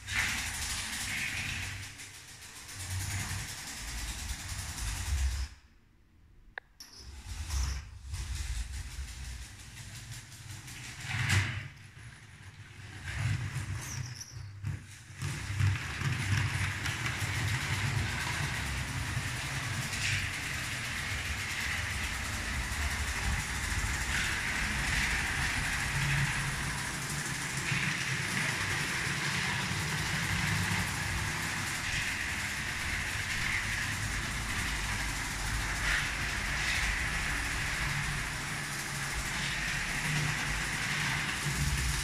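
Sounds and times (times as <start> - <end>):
model train motor hum: 0.0 - 5.6, 6.8 - 42.0.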